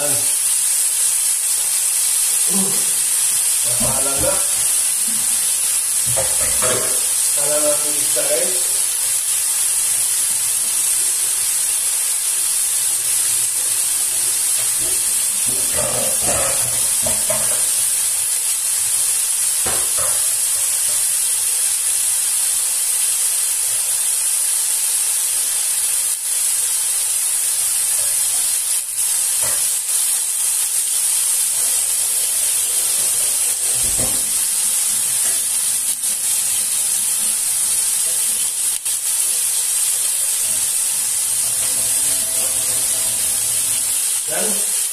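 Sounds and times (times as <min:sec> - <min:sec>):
fish sizzling and steaming: 0:00.0 - 0:44.9.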